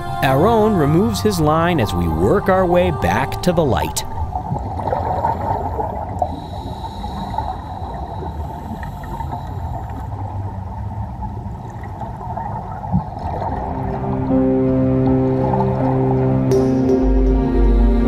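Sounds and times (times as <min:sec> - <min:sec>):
underwater bubbles gurgling: 0:00.0 - 0:16.5.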